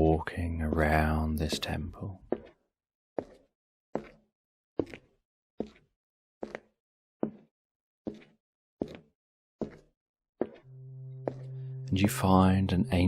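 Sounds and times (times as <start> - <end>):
slow footsteps: 0.0 - 2.6, 3.2 - 4.2, 4.8 - 7.5, 8.1 - 12.2.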